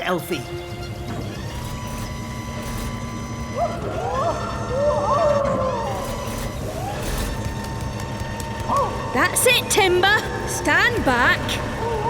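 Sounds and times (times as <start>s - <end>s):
background music tones: 0.0s - 12.0s
vehicle engine running: 0.0s - 12.0s
siren-like wail: 1.6s - 12.0s.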